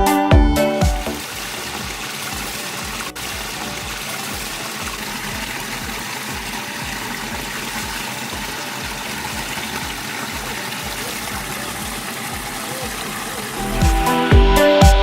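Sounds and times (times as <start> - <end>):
flowing water rushing: 0.9 - 15.0.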